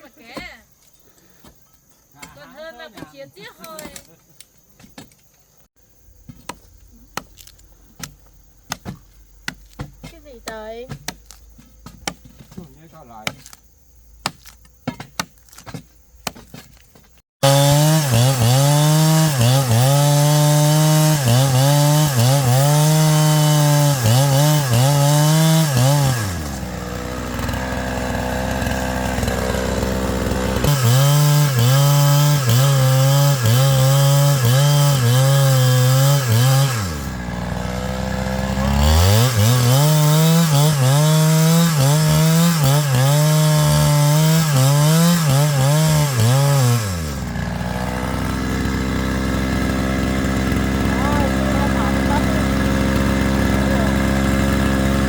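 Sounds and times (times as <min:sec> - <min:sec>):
chainsaw cutting wood: 0:06.3 - 0:12.6, 0:14.2 - 0:55.0.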